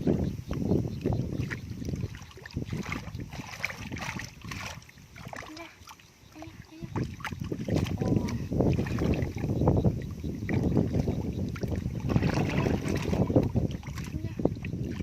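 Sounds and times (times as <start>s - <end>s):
muddy water sloshing: 0.0s - 15.0s.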